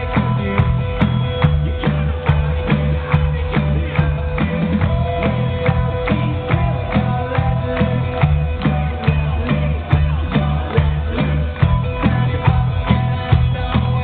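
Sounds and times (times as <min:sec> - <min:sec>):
loud music with drum beat and bass: 0:00.0 - 0:14.0.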